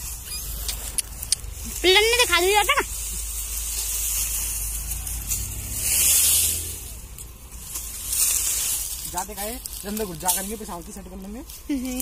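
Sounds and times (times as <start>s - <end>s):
dry straw rustling: 0.0s - 12.0s
steady low rumble: 0.0s - 12.0s.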